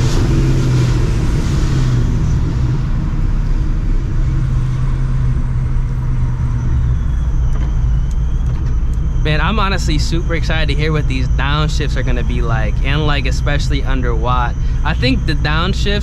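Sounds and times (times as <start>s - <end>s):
car engine low drone: 0.0s - 16.0s.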